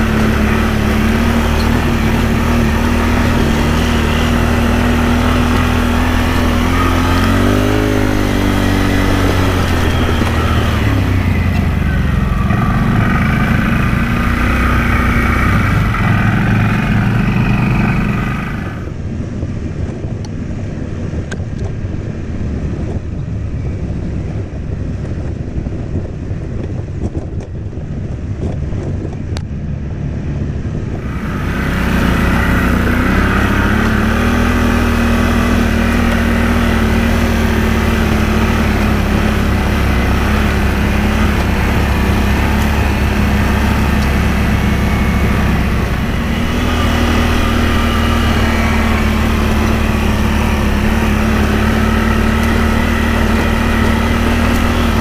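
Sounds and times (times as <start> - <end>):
atv engine revving: 0.0 - 19.0, 28.2 - 55.0.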